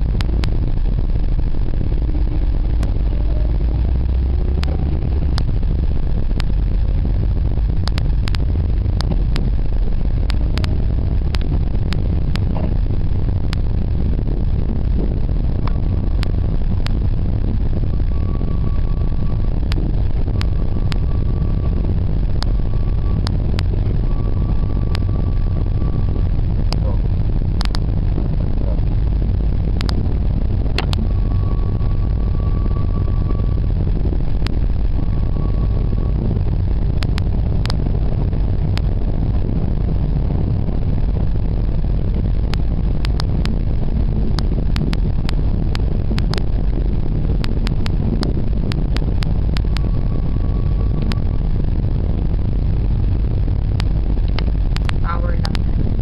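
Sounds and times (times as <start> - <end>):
vehicle engine and road rumble: 0.0 - 56.0.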